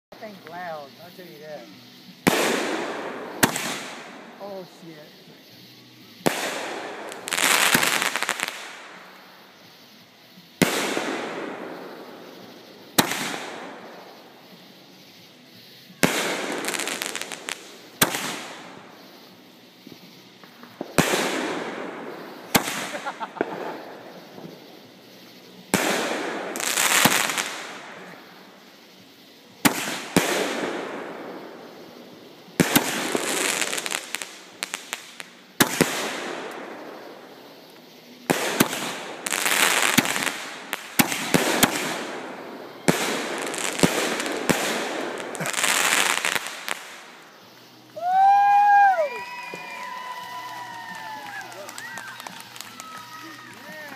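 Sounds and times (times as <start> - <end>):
firework hiss: 0.1 - 53.9
firework bangs: 2.2 - 5.0, 6.2 - 9.5, 10.6 - 14.4, 15.9 - 24.8, 25.6 - 28.8, 29.6 - 53.9.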